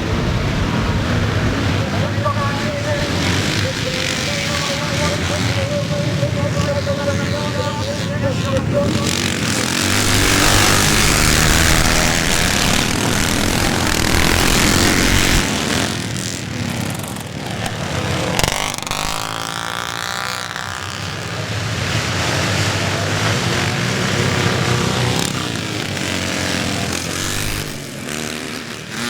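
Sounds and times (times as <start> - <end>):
motocross bikes at full throttle: 0.0 - 29.0
motorbike engine revving up and down: 0.0 - 29.0.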